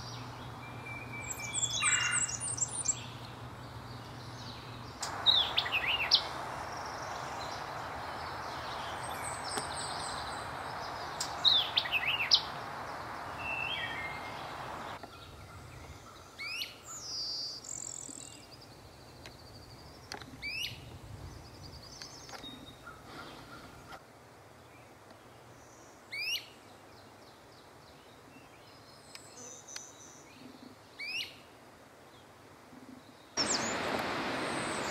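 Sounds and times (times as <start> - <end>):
songbirds singing: 0.0 - 24.0, 24.6 - 31.5, 32.1 - 34.9
background hiss: 0.0 - 34.9.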